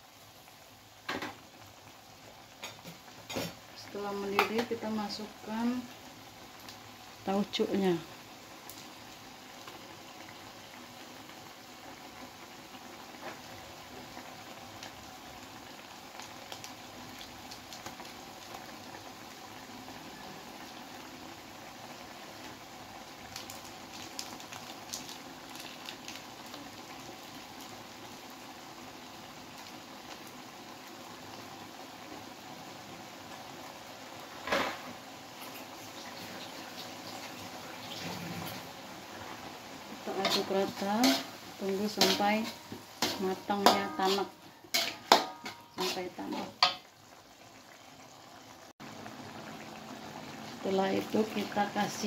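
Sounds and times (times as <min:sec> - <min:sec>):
sauce bubbling in a wok: 0:00.0 - 0:52.0.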